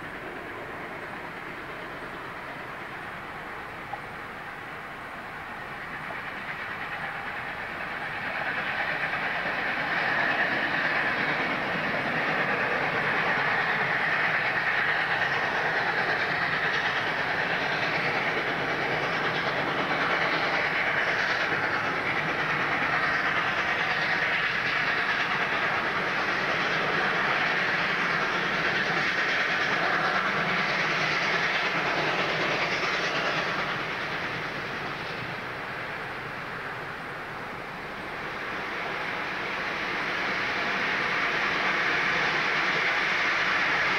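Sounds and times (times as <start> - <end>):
steam train passing: 0.0 - 43.9.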